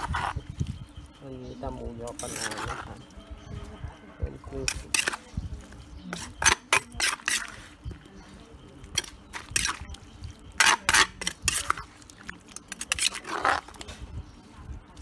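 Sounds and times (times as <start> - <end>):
spoon scraping in mortar: 0.0 - 14.4.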